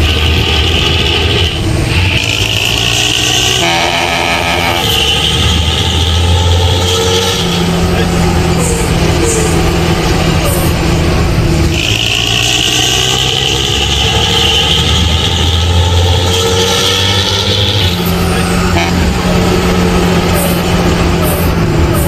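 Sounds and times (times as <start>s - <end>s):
vehicle exhaust running: 0.0s - 22.0s.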